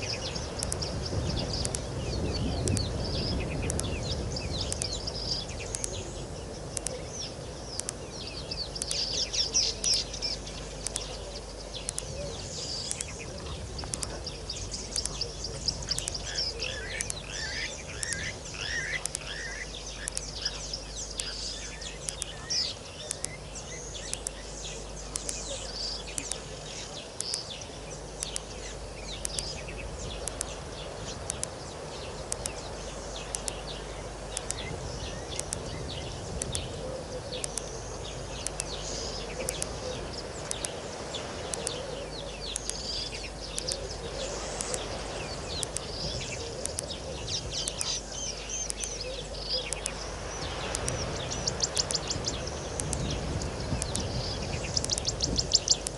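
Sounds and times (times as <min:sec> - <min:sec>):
birds chirping and calling: 0:00.0 - 0:55.9
low steady hum: 0:00.0 - 0:55.9.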